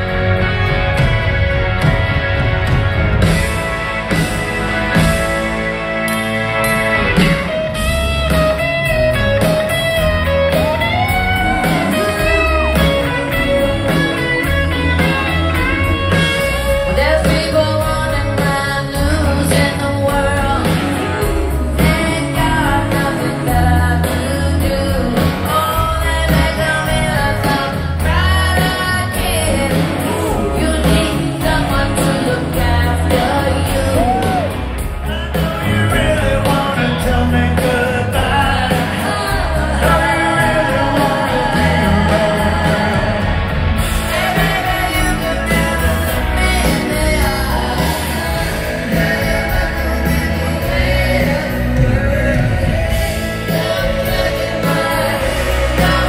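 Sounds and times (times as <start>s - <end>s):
live rock band playing: 0.0s - 56.0s
woman singing: 10.6s - 34.8s, 35.4s - 56.0s.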